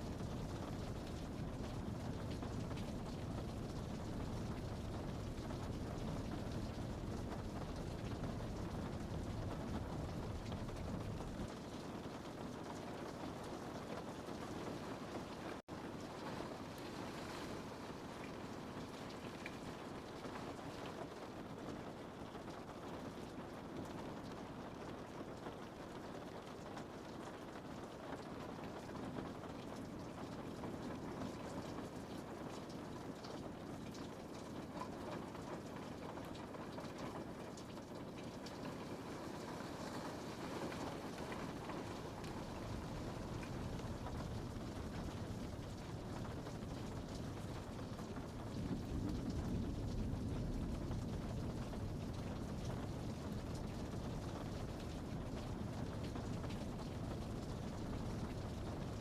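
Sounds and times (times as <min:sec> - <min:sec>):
rain on a window pane: 0:00.0 - 0:59.0.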